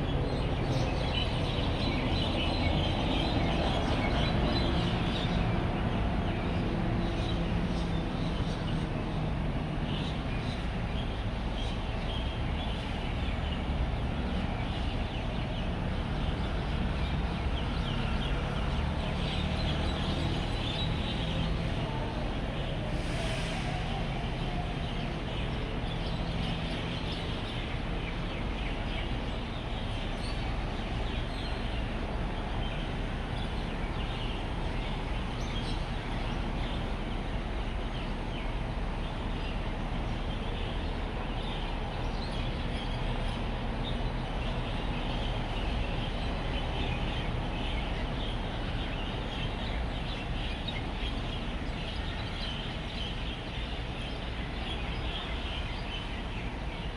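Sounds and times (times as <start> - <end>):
flock of birds chirping: 0.0 - 56.9
road traffic hum: 0.0 - 56.9.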